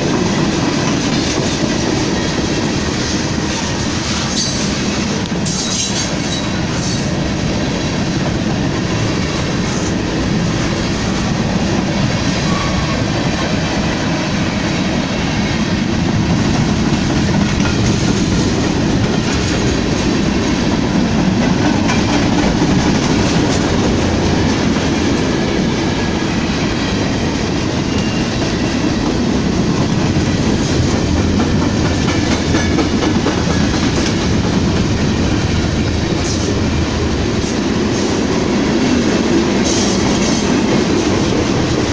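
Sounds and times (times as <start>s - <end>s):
train wheels clacking on rails: 0.0s - 41.9s.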